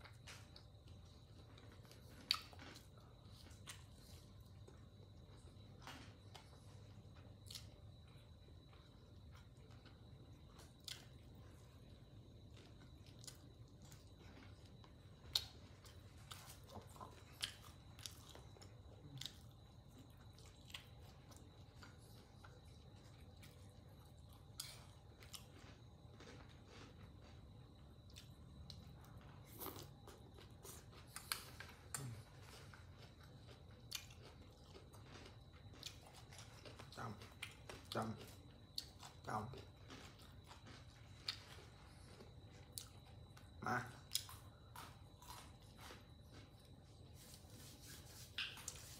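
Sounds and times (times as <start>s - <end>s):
chewing and crunching: 0.0s - 48.9s
low room hum: 0.0s - 48.9s.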